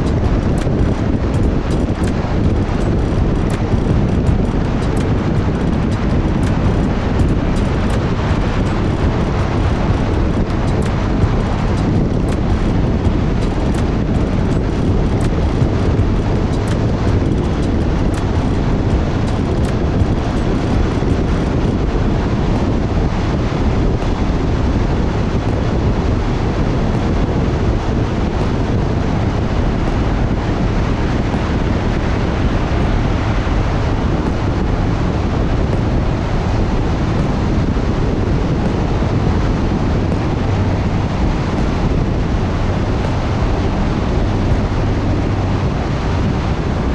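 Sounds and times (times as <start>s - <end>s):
motorcycle road noise: 0.0s - 46.9s
wind rush on microphone: 0.0s - 46.9s.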